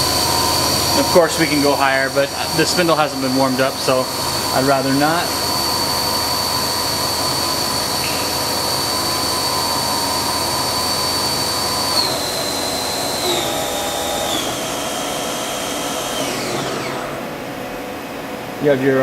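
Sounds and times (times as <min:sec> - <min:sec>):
machine spindle whining: 0:00.0 - 0:18.5.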